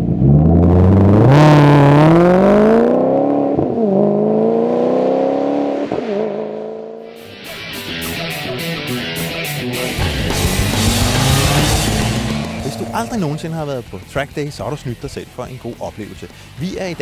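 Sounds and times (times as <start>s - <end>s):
car engine accelerating: 0.0s - 14.2s.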